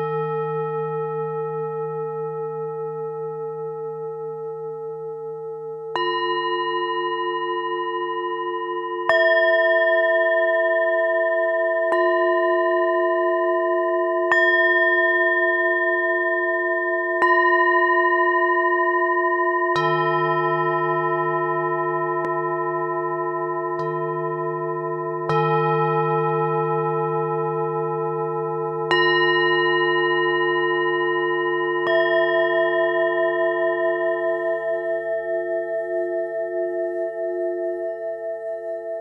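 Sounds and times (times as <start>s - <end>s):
singing bowls ringing: 0.0s - 39.0s.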